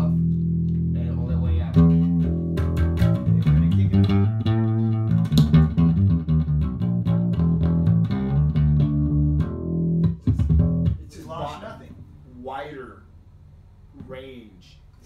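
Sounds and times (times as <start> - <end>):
plucked bass guitar line: 0.0 - 12.1.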